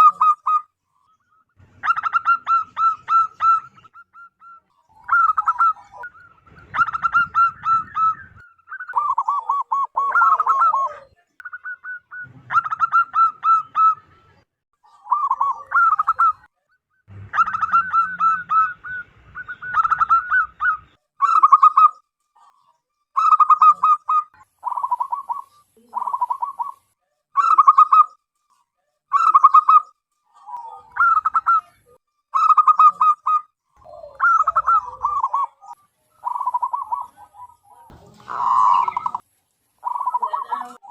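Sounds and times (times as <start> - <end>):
dove cooing: 0.0 - 0.7, 1.8 - 14.0, 14.9 - 16.5, 17.1 - 22.6, 23.2 - 28.1, 29.1 - 40.9.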